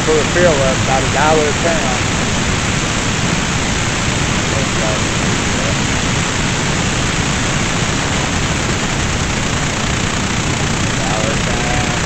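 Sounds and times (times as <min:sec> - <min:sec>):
loud rushing noise: 0:00.0 - 0:12.0.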